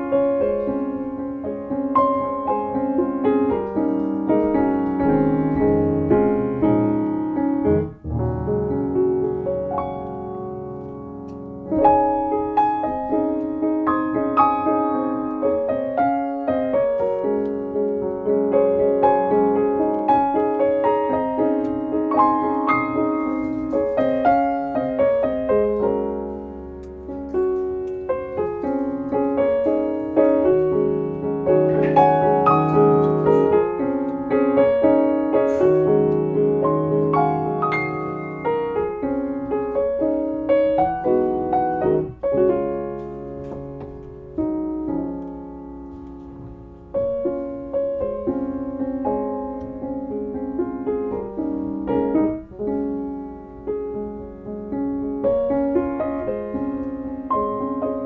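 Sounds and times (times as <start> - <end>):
gentle solo piano: 0.0 - 58.0.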